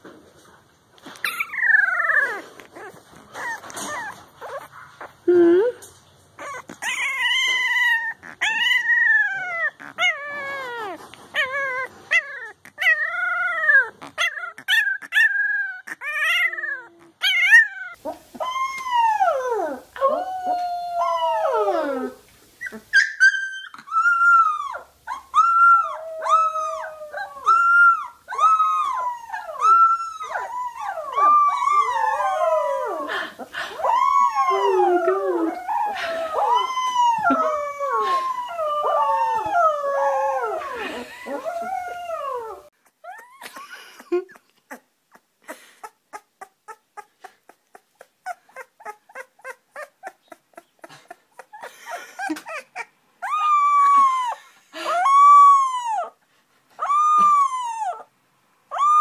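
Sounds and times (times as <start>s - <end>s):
puppies crying and whimpering: 1.2s - 5.3s, 6.4s - 56.2s, 56.8s - 58.1s, 58.7s - 59.0s.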